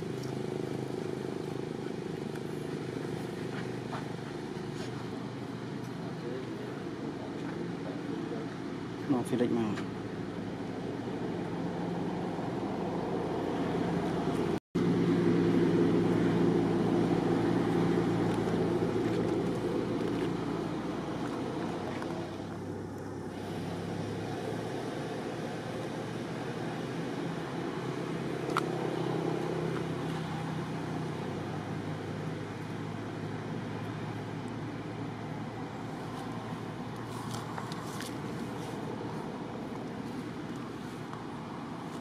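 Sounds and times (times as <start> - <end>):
low mechanical engine drone: 0.0 - 42.0.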